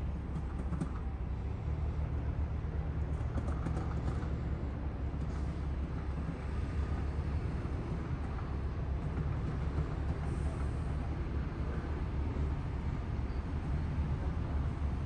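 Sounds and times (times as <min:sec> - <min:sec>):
light rail train rumble: 0:00.0 - 0:15.0.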